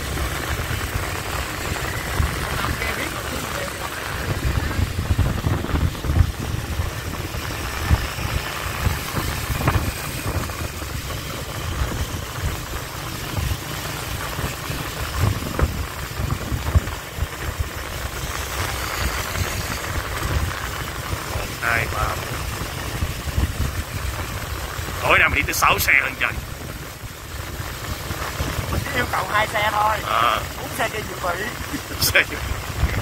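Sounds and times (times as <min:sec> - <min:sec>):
motorbike engine running: 0:00.0 - 0:33.0
road noise: 0:00.0 - 0:33.0.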